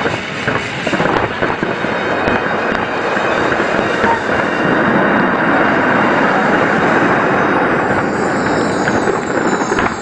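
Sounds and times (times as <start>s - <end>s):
fireworks bursting and crackling: 0.0s - 10.0s.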